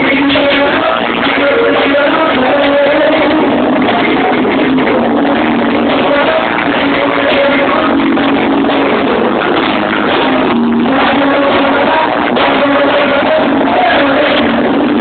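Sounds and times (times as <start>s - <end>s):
live rock band with guitar: 0.0s - 15.0s.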